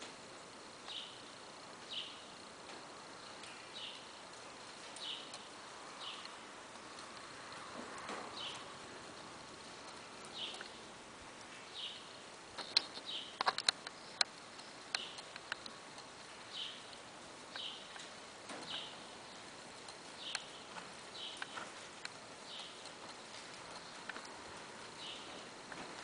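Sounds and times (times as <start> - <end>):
hooves and tack clicking: 2.7 - 11.7, 12.6 - 26.0.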